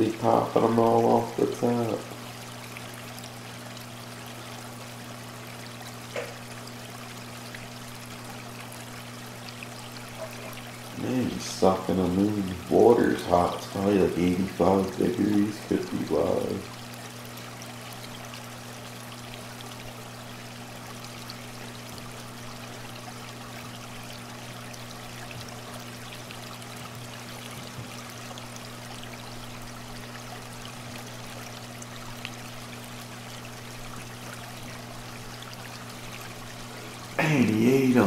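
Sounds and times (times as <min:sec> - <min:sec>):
low steady hum: 0:00.0 - 0:38.0
water trickling into tank: 0:00.0 - 0:38.0.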